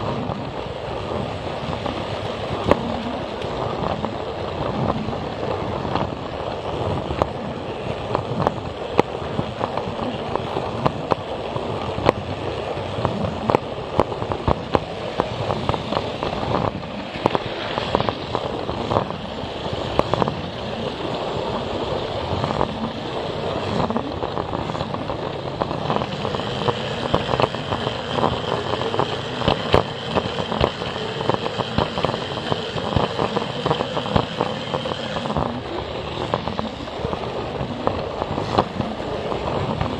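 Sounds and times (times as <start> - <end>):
high whine: 0.0 - 39.9.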